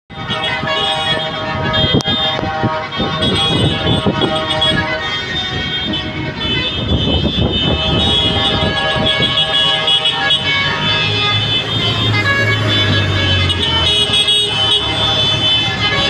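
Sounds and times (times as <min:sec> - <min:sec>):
heavy vehicle engine rumbling: 0:00.1 - 0:16.0.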